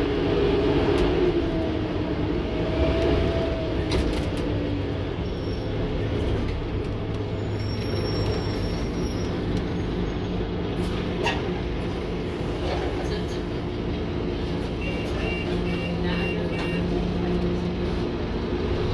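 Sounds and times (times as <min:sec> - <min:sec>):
bus engine droning: 0:00.0 - 0:18.9
road noise: 0:00.0 - 0:18.9.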